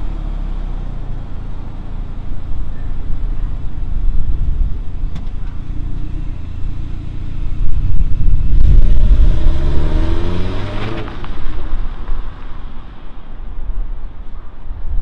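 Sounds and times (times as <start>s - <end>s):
car engine rumbling and revving: 0.0s - 14.4s.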